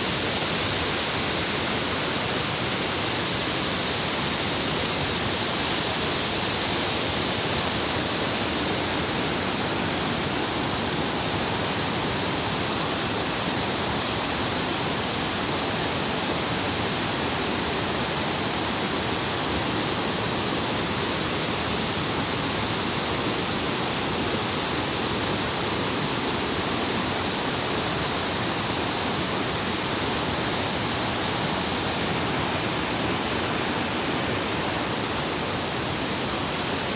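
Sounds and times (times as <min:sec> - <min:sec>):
water rushing through spillway: 0:00.0 - 0:36.9.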